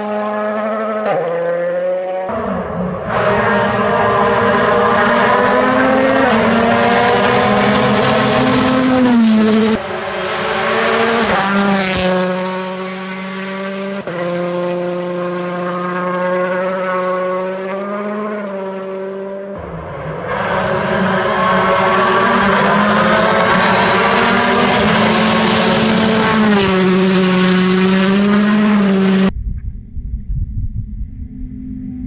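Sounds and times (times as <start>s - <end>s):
rally car engine passing: 0.0s - 29.3s.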